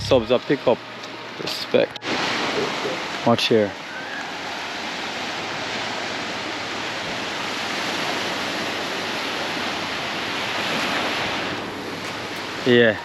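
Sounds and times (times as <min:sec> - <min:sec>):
sea waves washing onto beach: 0:02.0 - 0:13.0.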